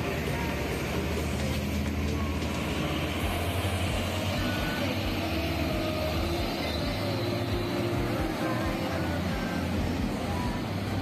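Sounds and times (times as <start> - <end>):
road traffic: 0.0 - 11.0
truck diesel engine passing: 0.0 - 11.0.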